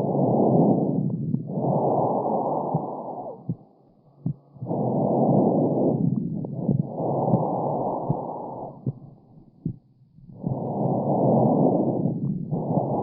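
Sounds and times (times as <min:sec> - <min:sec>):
breathing through stethoscope: 0:00.0 - 0:09.0, 0:10.3 - 0:13.0.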